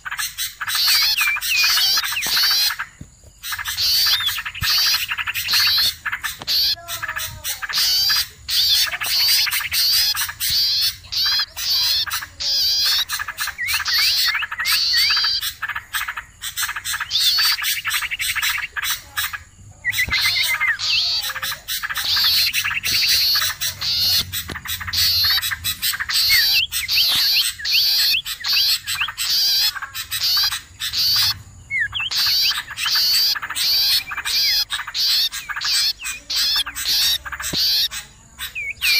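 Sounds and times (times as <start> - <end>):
small songbirds chirping chorus: 0.0 - 38.9.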